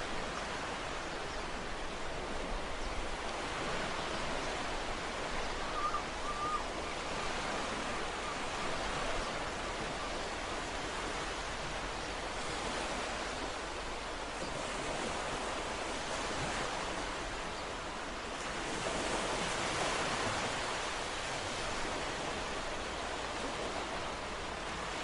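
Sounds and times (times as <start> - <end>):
ocean waves washing onto shore: 0.0 - 25.0.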